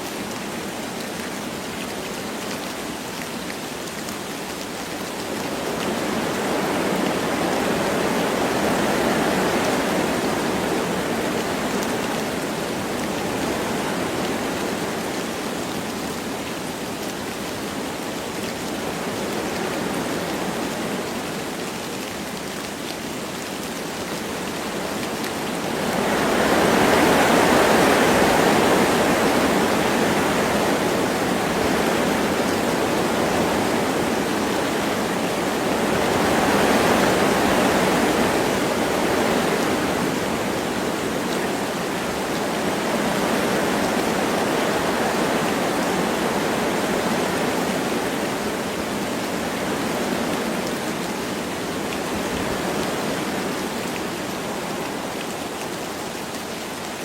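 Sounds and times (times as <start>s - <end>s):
light rain falling: 0.0s - 57.0s
wind gusting through trees: 0.0s - 57.0s.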